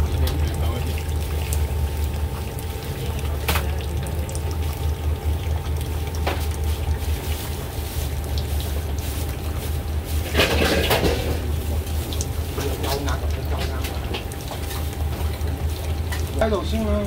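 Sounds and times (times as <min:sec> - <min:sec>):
liquid bubbling in pot: 0:00.0 - 0:17.0.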